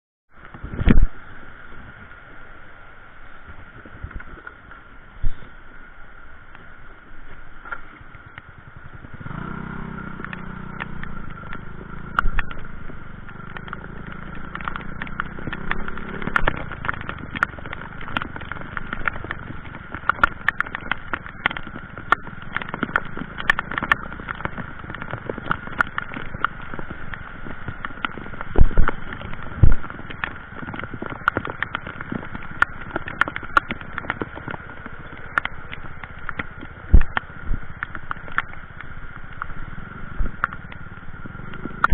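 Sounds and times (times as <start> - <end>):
raindrops pattering: 0.3 - 41.9
low hum: 0.4 - 41.9
rushing floodwater: 0.4 - 41.9.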